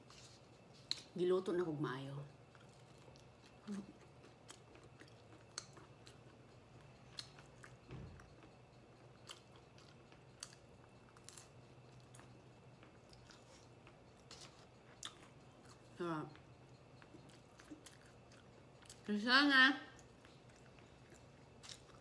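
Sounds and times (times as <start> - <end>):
person chewing: 2.5 - 19.1, 20.0 - 22.0.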